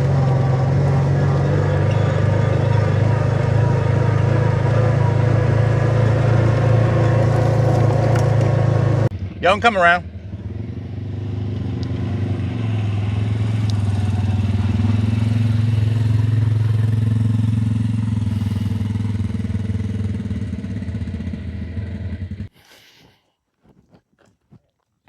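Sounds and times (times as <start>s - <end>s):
utility vehicle engine running: 0.0s - 22.5s.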